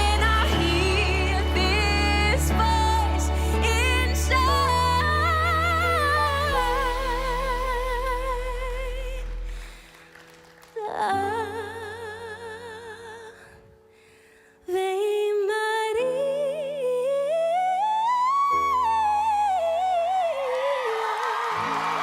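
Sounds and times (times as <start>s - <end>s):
soft instrumental accompaniment: 0.0s - 20.5s.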